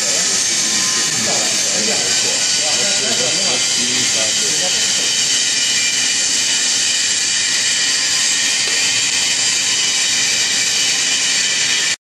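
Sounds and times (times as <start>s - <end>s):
fryer hissing: 0.0s - 12.0s.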